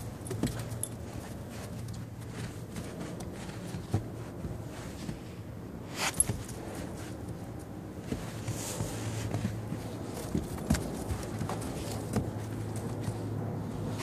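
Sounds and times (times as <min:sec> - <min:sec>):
footsteps crunching in snow: 0:00.0 - 0:14.0
low steady hum: 0:00.0 - 0:14.0
short rustling: 0:00.0 - 0:14.0.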